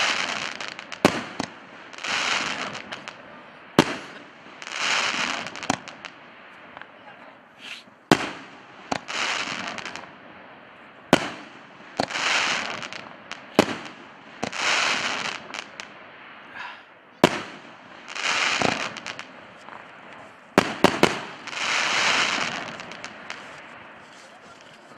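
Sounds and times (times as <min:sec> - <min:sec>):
firework bangs: 0:00.0 - 0:16.6, 0:17.2 - 0:24.9.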